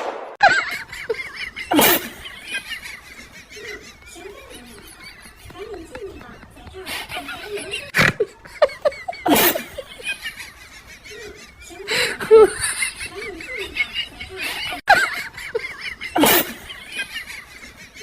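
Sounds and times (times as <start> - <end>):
loud laughter: 0.4 - 18.0.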